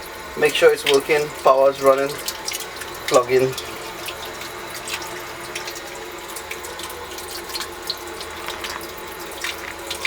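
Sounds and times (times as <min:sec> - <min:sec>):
sump pump running: 0:00.0 - 0:10.0
water pouring and splashing: 0:00.0 - 0:10.0.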